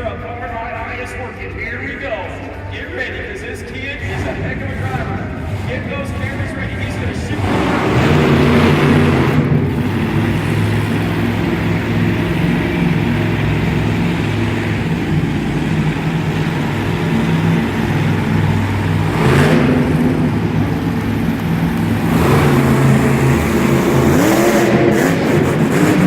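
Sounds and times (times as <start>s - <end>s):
truck engine running and revving: 3.9s - 26.0s.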